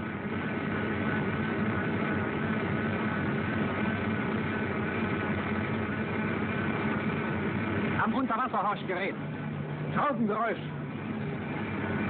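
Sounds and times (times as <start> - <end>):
faint hum: 0.0 - 12.0
machine drone: 0.0 - 12.0.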